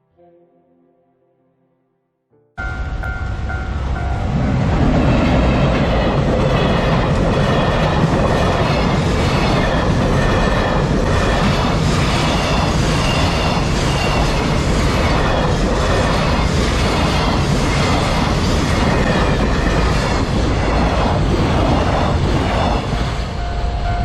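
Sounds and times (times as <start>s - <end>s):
freight train rumbling past: 2.6s - 24.0s.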